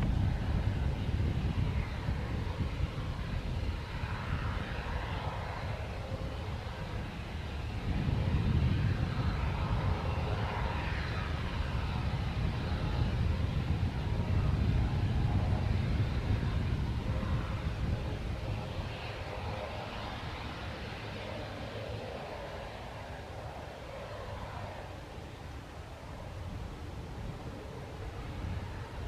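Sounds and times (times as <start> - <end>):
aircraft engines rumbling: 0.0 - 29.0.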